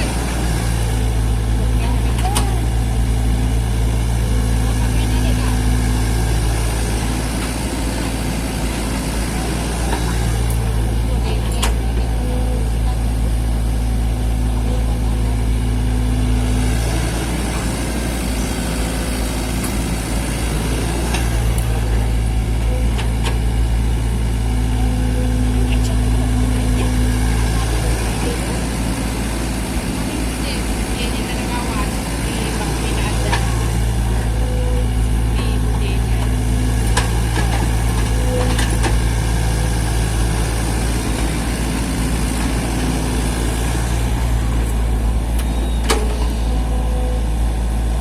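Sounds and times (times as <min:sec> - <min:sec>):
excavator engine running: 0:00.0 - 0:48.0.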